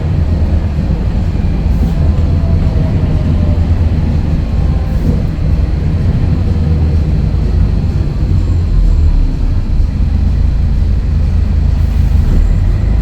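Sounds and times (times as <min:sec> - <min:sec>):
diesel bus engine rumbling: 0:00.0 - 0:13.0.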